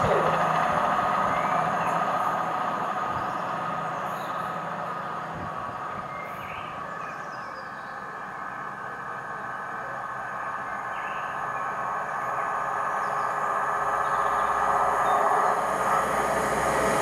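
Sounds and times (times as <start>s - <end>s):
diesel train pulling away: 0.0s - 17.0s.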